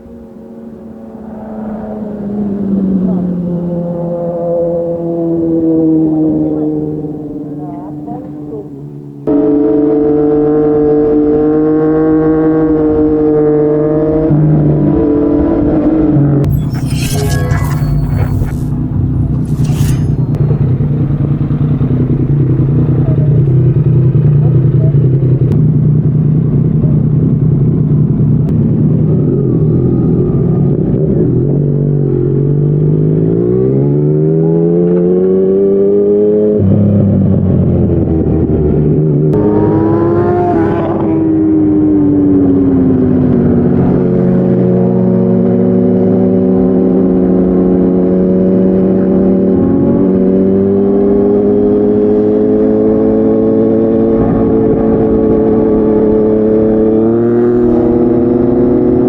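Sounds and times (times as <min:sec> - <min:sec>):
motorcycle engine accelerating: 0:00.1 - 0:59.0.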